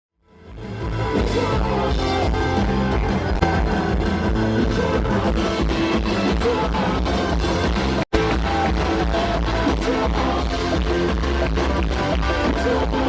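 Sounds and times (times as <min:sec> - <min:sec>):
rock band playing live: 0:00.2 - 0:13.0.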